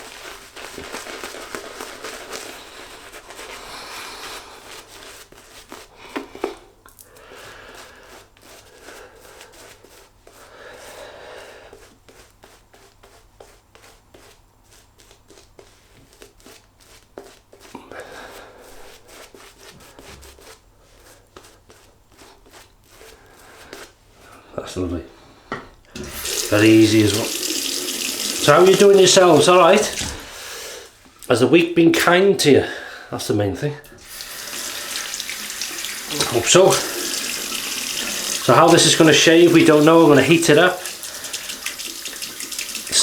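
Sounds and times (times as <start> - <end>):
shaving brush swishing lather: 0.0 - 6.7, 7.4 - 10.9, 11.7 - 17.7, 18.5 - 24.0, 26.0 - 31.1, 34.0 - 43.0.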